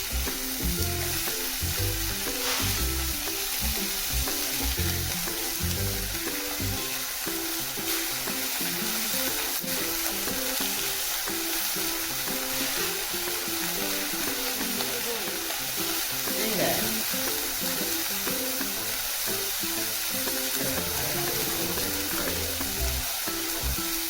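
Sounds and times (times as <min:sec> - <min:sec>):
food sizzling on a grill: 0:00.0 - 0:24.0
low background music: 0:00.0 - 0:24.0.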